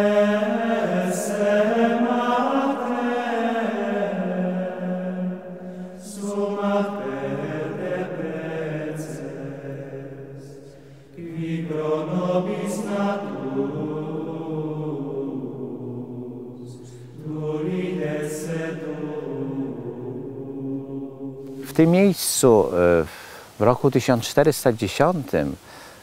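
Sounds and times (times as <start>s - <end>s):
low male voices chanting: 0.0s - 21.8s.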